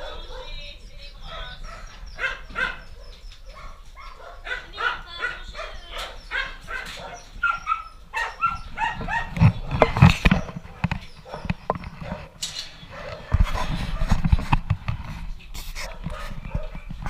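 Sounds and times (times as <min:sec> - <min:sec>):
dogs barking and yipping: 0:00.0 - 0:14.6, 0:15.8 - 0:17.0.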